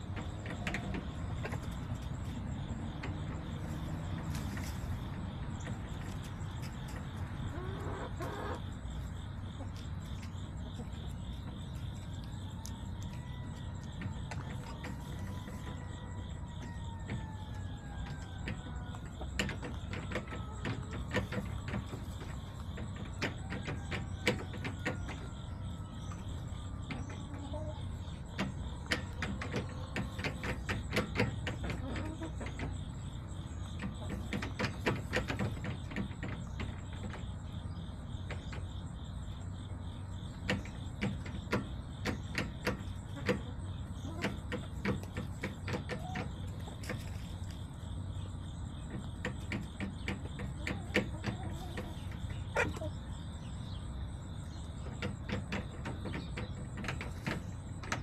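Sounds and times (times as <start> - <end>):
crickets chirring: 0.0 - 58.0
low traffic rumble: 0.0 - 58.0.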